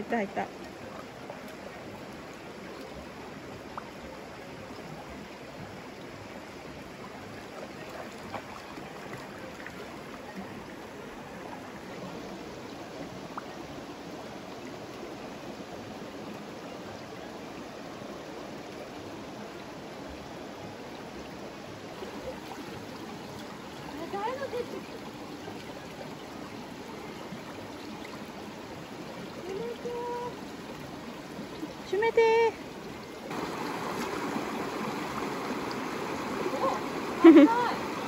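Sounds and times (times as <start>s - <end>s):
stream babbling over stones: 0.0s - 38.0s.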